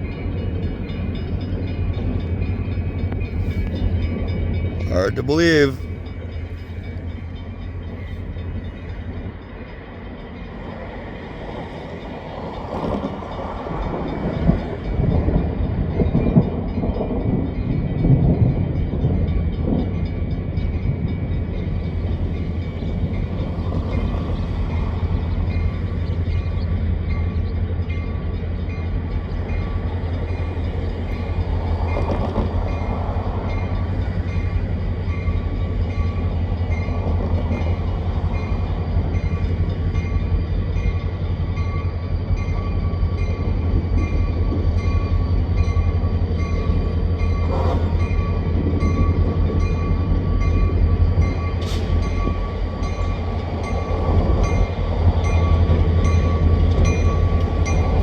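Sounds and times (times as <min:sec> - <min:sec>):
diesel train rumbling: 0:00.0 - 0:58.0.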